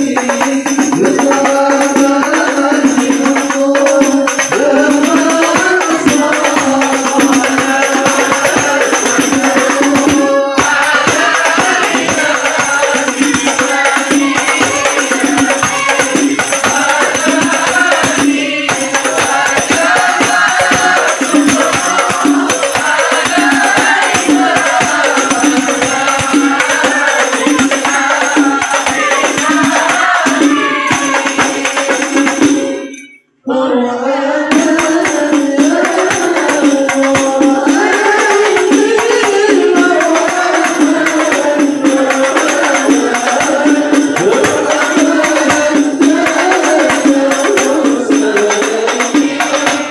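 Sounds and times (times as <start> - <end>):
frame drums beating: 0.0 - 32.9, 34.5 - 49.9
men chanting together: 0.0 - 49.9.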